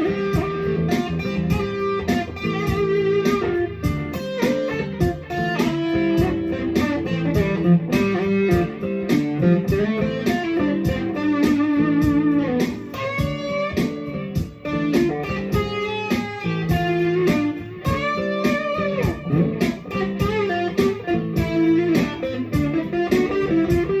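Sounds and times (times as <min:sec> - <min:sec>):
electric guitar lead melody: 0:00.0 - 0:24.0.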